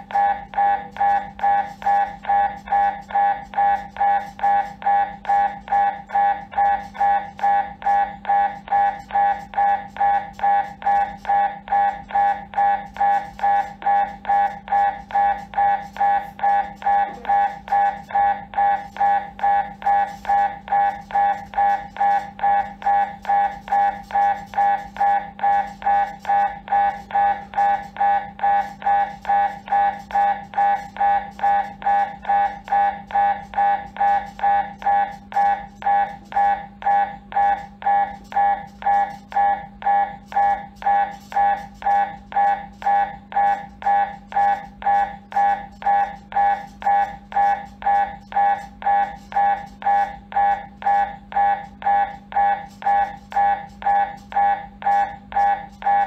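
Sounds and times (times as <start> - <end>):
constant low hum: 0.0 - 56.0
mri scanner beeping: 0.0 - 56.0.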